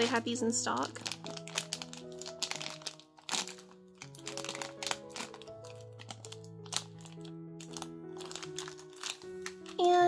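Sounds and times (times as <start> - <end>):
ambient background music: 0.0 - 10.0
plastic packaging crinkling: 0.0 - 10.0.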